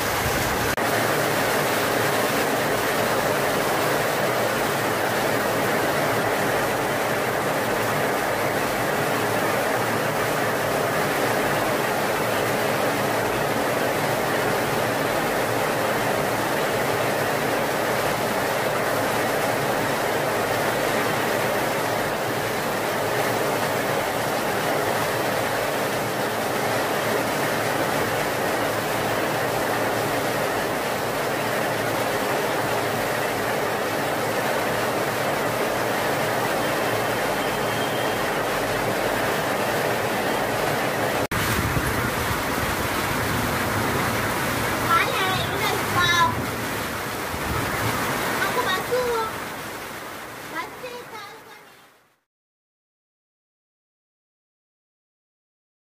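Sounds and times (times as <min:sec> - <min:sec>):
heavy rain pouring: 0:00.0 - 0:52.2.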